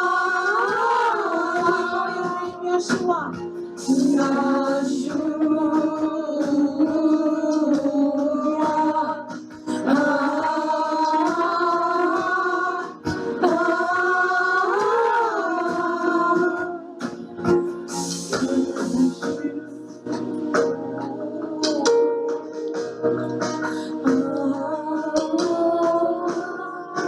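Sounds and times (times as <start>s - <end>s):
instrumental accompaniment: 0.0s - 27.0s
voices singing worship song: 0.0s - 27.0s.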